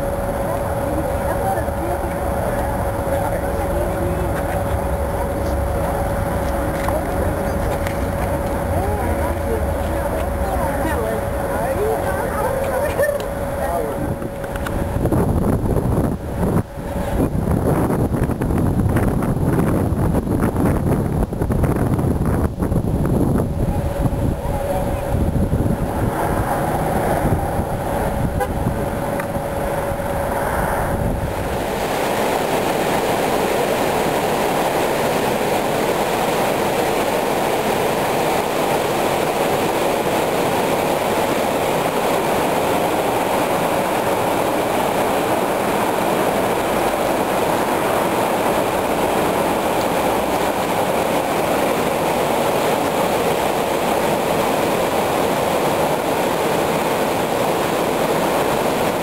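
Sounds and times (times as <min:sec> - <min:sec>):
river rapids rushing: 0:00.0 - 0:17.8, 0:23.4 - 0:59.0
wind rumbling on microphone: 0:00.0 - 0:59.0.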